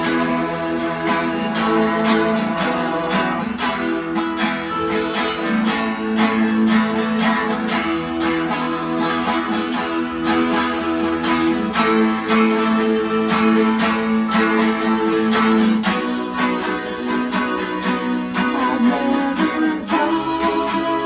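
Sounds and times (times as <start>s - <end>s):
strummed guitar chords: 0.0s - 21.0s
sustained chord tones: 0.0s - 21.0s.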